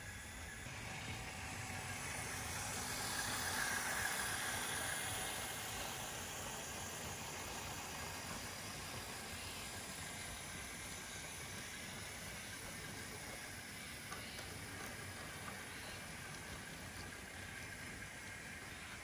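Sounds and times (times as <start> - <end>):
toy train rumbling on plastic track: 0.0 - 19.0.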